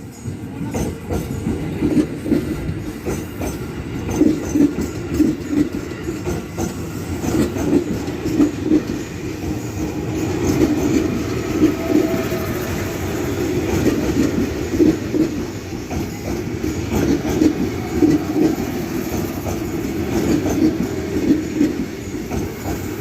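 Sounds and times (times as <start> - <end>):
electric train rumbling past: 0.0 - 23.0.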